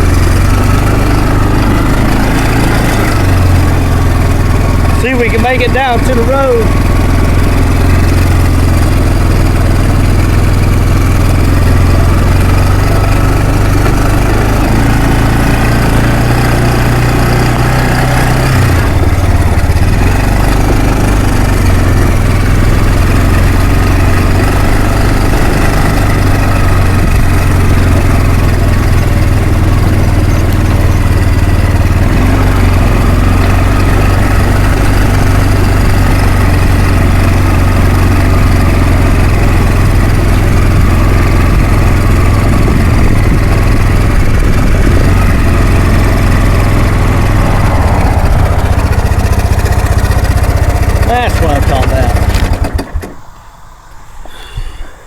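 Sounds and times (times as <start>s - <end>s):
atv engine running under load: 0.0s - 55.0s.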